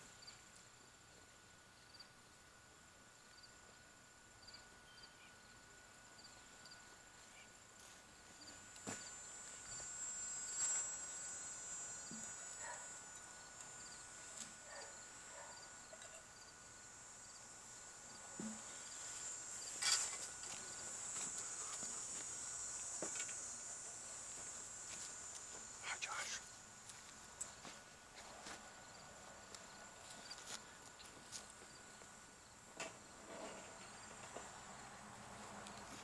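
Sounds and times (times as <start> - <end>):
insects droning: 0.0 - 36.0
cricket chirps: 0.1 - 1.0, 1.7 - 36.0.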